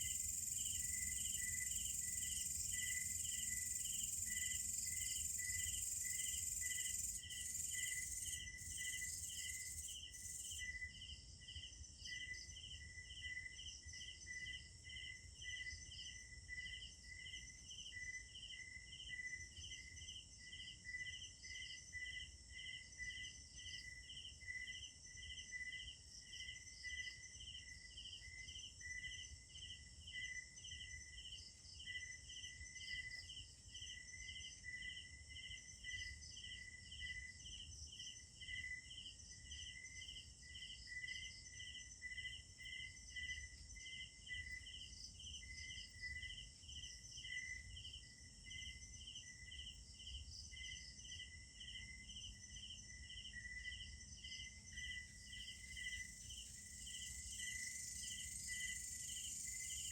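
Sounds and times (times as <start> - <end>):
crickets chirping: 0.0 - 11.0, 20.6 - 59.9
continuous insect tone: 0.0 - 59.9.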